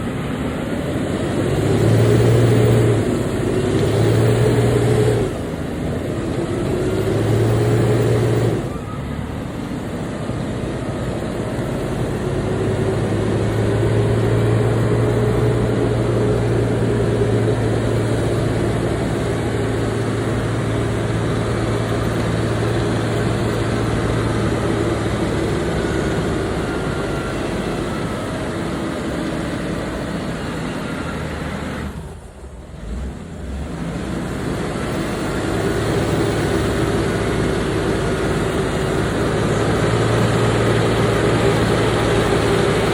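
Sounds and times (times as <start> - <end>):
truck engine running under load: 0.0 - 42.9.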